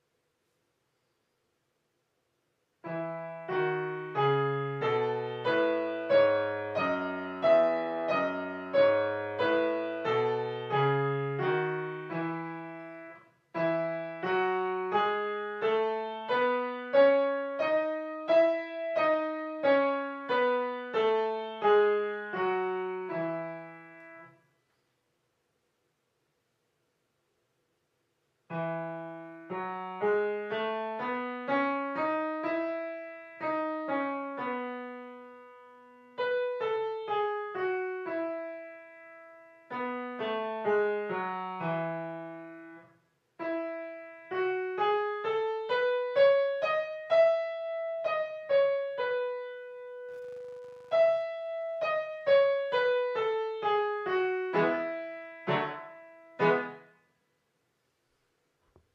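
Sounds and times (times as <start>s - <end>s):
piano piece: 2.8s - 24.4s, 28.5s - 57.0s.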